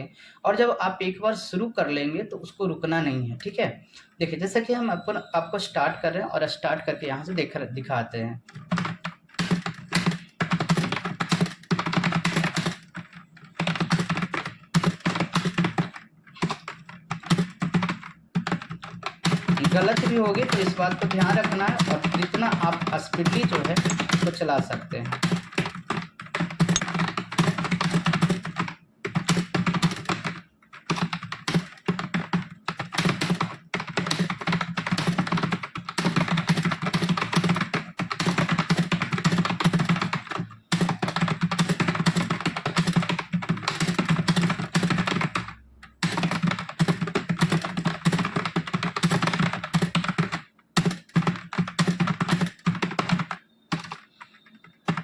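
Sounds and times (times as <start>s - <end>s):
fast typing on keyboard: 8.4s - 55.0s.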